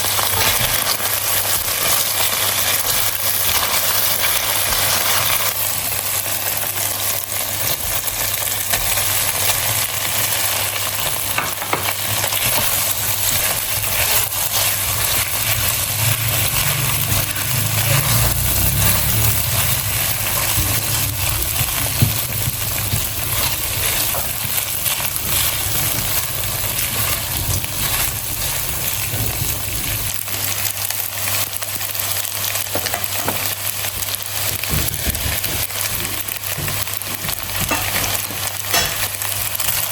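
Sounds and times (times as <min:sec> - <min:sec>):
rice sizzling in a pan: 0:00.0 - 0:39.9.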